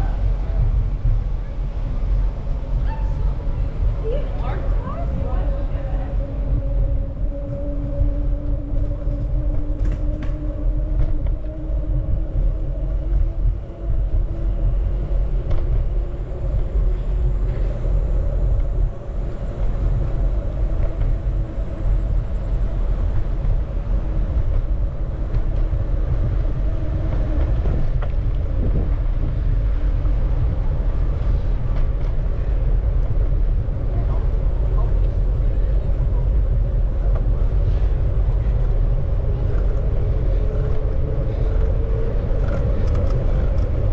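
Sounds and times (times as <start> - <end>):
wind rumbling on microphone: 0.0 - 43.9.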